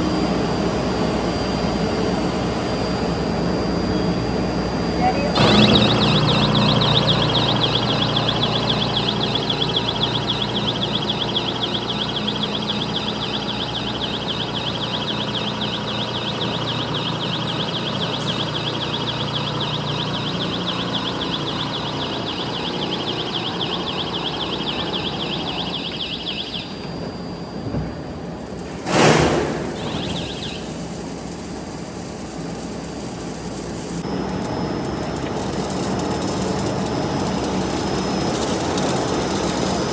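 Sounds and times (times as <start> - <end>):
machinery high whine: 0.0 - 39.9
machinery low hum: 0.0 - 39.9.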